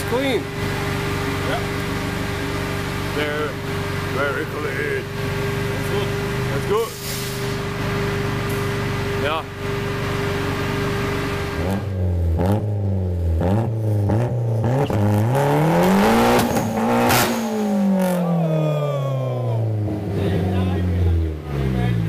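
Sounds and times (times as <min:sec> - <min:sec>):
turbocharged engine revving: 0:00.0 - 0:22.0.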